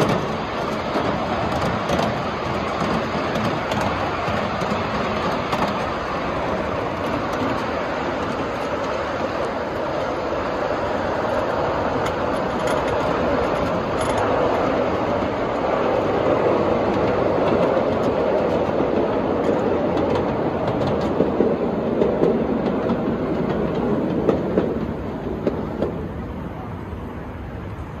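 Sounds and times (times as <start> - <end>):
clicks over rail joints: 0.0 - 10.1, 11.3 - 14.9, 16.8 - 26.1
miniature train rumbling on rails: 0.0 - 28.0.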